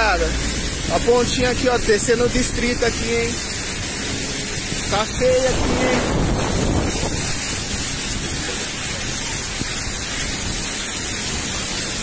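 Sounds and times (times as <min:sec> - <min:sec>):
engine and road rumble: 0:00.0 - 0:12.0
water spray from tyres: 0:00.0 - 0:12.0.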